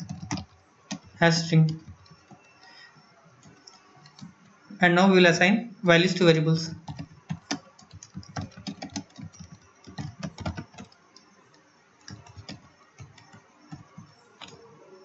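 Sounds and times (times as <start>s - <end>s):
keyboard typing: 0.0s - 4.6s, 6.6s - 15.0s.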